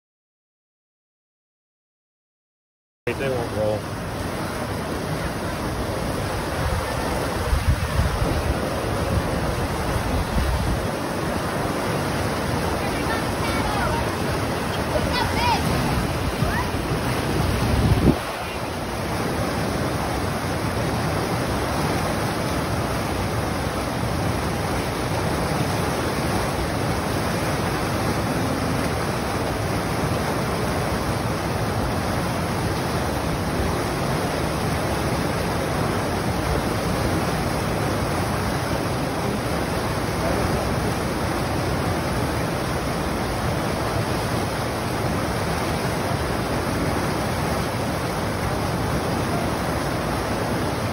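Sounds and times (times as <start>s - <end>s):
water rushing through rapids: 3.1s - 50.9s.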